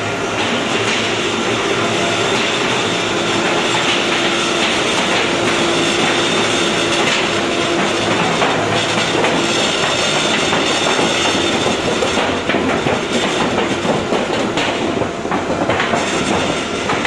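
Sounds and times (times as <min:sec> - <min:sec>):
machine hum: 0:00.0 - 0:17.0
forming rollers rattling: 0:00.4 - 0:17.0.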